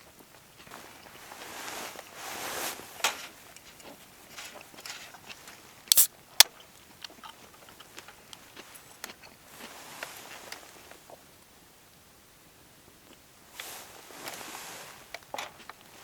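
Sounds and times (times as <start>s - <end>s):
rustle: 0.0s - 11.4s, 13.0s - 16.0s.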